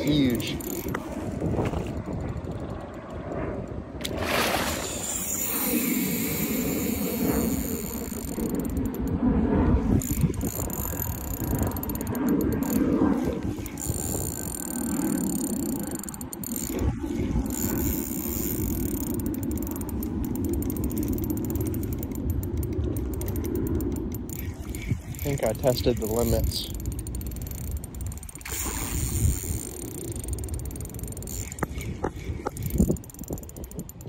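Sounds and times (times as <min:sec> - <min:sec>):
fishing reel drag clicking and whirring: 0:00.0 - 0:04.2, 0:04.8 - 0:34.0.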